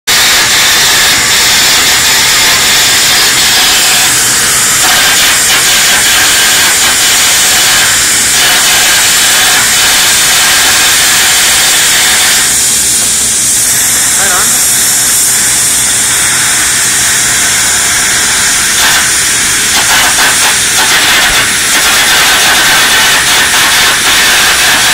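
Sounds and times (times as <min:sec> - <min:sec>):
arc welding crackle: 0:00.1 - 0:24.9.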